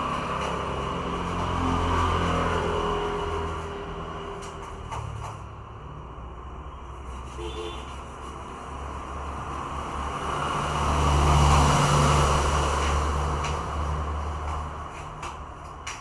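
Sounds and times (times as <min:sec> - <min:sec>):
road vehicle passing by: 0:00.0 - 0:16.0.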